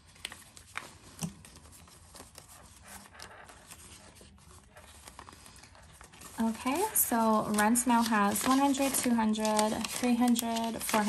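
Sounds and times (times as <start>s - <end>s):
banknotes rustling: 0.0s - 11.0s.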